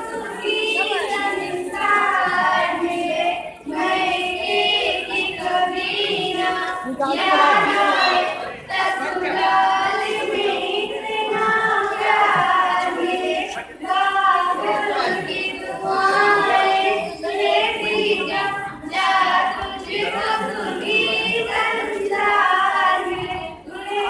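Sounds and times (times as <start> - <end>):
girl singing into a microphone: 0.0 - 24.0.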